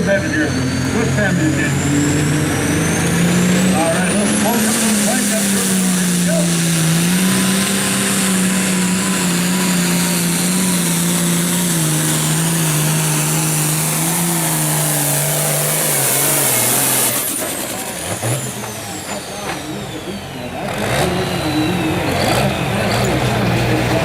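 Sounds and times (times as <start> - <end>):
diesel tractor engine at full throttle: 0.0 - 24.0.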